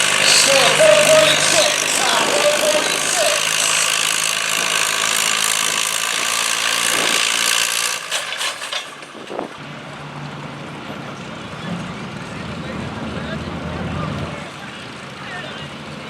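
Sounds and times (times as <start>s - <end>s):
tractor engine running hard: 0.0s - 16.0s.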